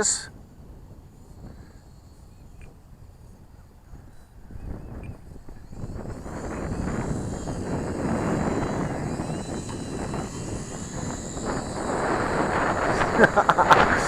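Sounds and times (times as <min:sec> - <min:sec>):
small electric motors whining: 0:00.0 - 0:14.0
wind rumble on microphone: 0:00.0 - 0:14.0.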